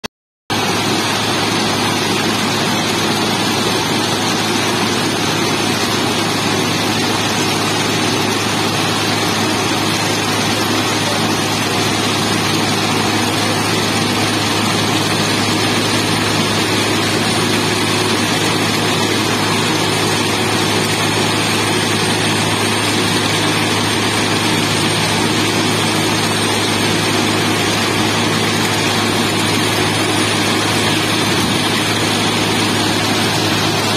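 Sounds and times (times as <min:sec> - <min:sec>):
diesel engine running: 0:00.5 - 0:33.9.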